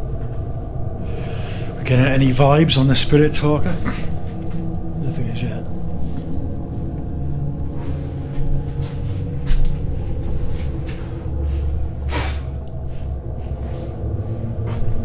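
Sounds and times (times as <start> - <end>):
storm wind rumbling: 0.0 - 15.0.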